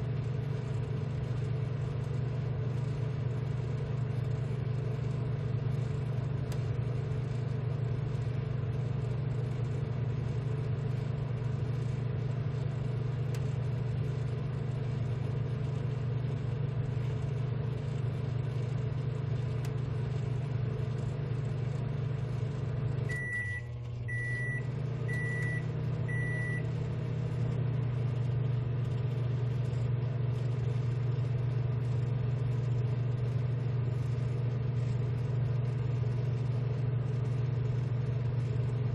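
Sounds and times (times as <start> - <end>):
blowers and fans humming: 0.0 - 38.9.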